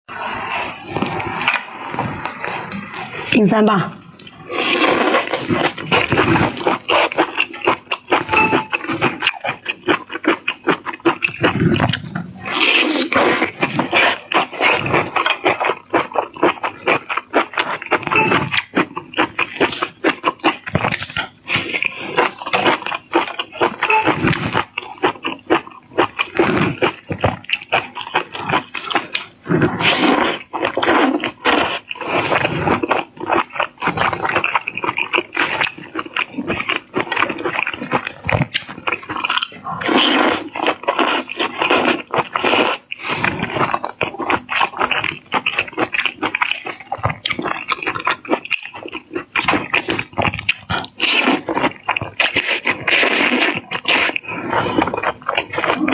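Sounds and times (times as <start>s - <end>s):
close chewing and crunching: 0.1s - 55.9s.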